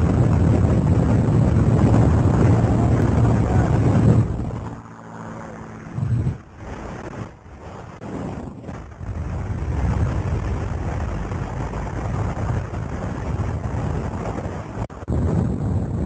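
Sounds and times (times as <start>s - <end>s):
wind blasting over microphone: 0.0s - 16.0s.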